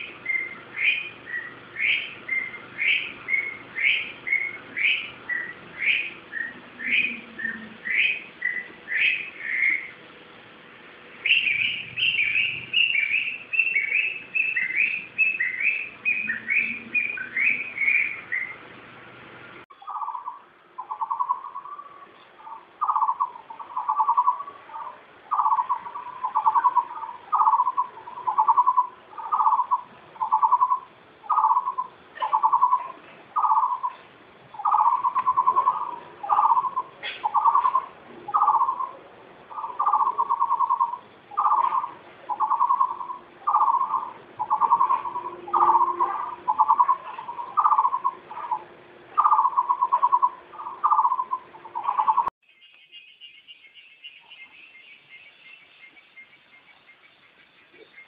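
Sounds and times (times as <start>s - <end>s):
bird chirping high: 0.0s - 10.0s, 11.2s - 18.6s, 19.7s - 58.0s
bird lower pulsed call: 0.0s - 10.0s, 11.2s - 18.6s, 19.7s - 58.0s.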